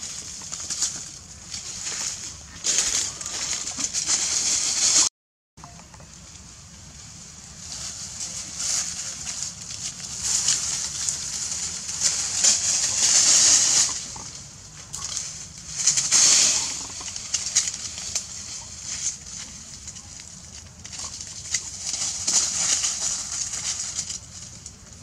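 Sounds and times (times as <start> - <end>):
dry leaves rustling and crackling: 0.0 - 25.0.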